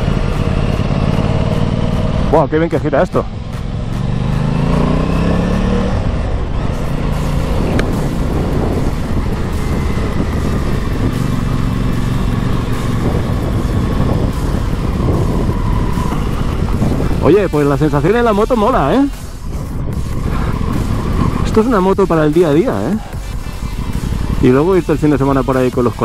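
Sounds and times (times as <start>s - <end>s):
motorcycle engine accelerating: 0.0s - 26.0s
wind rush: 0.0s - 26.0s.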